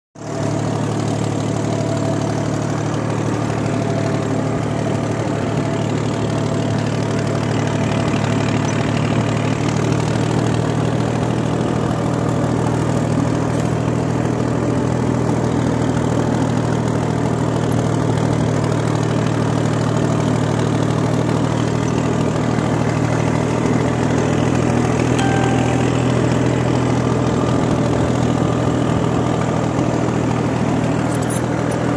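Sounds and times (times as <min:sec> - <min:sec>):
tractor engine droning: 0:00.2 - 0:31.9.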